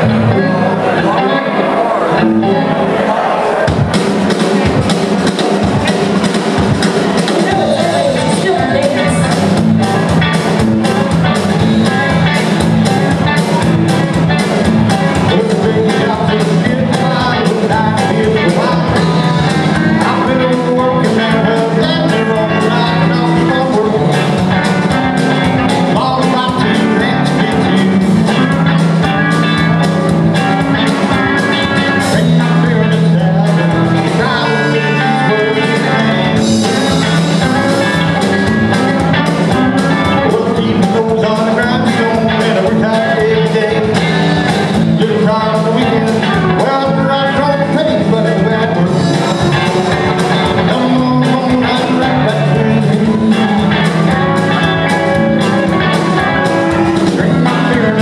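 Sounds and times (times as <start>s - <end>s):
live rock band playing: 0.0s - 58.0s
sustained guitar notes: 0.0s - 58.0s
drums keeping steady beat: 3.5s - 58.0s.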